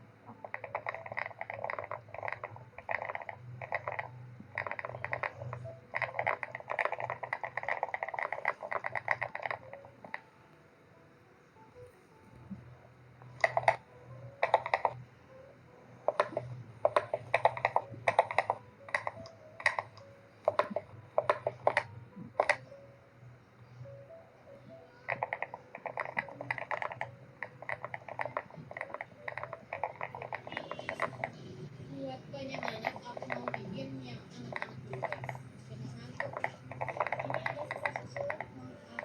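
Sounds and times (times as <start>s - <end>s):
rapid clicks in bursts: 0.3s - 10.3s, 13.2s - 15.1s, 15.9s - 22.8s, 25.0s - 31.7s, 32.5s - 39.0s.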